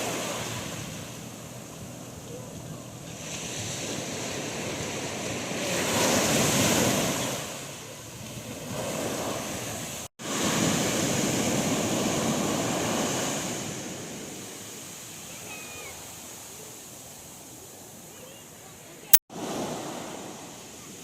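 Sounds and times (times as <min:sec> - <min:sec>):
sea waves breaking on beach: 0:00.0 - 0:18.4, 0:19.1 - 0:21.0.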